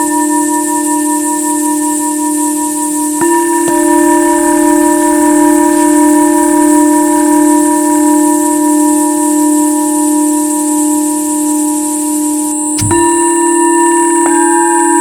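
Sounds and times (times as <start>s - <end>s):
singing bowls humming: 0.0s - 15.0s.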